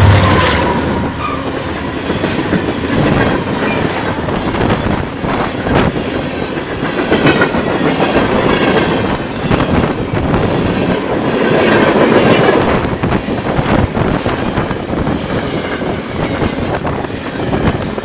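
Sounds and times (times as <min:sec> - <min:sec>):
deep locomotive engine rumble: 0:00.0 - 0:18.0
train wheels clacking over rail joints: 0:00.0 - 0:18.0.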